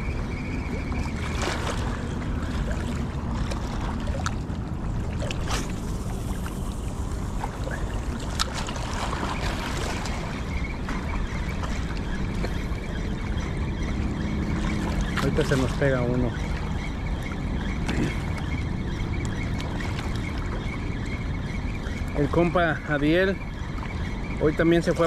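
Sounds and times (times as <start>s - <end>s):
water at shoreline: 0.0s - 25.0s
wind: 0.0s - 25.0s.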